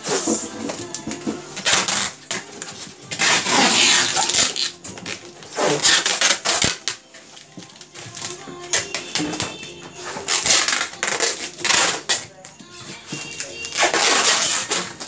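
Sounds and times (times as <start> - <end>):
styrofoam and plastic scraping: 0.0 - 15.0.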